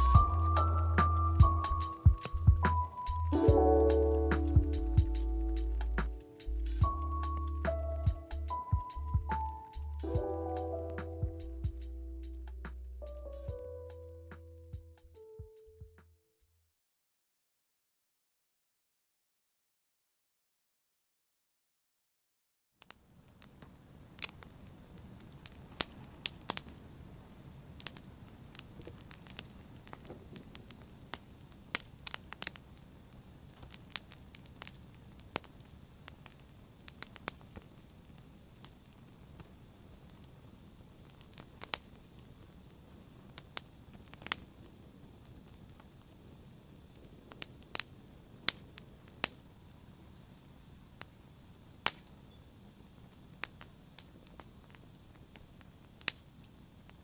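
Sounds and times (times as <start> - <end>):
low hiss of burning: 0.0 - 15.2, 22.8 - 57.0
wood fire crackling: 0.0 - 15.2, 22.8 - 57.0.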